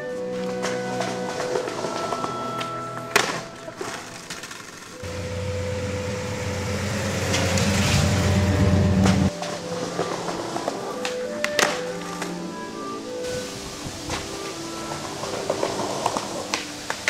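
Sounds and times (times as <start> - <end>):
skateboard wheels rolling on pavement: 0.0 - 17.0.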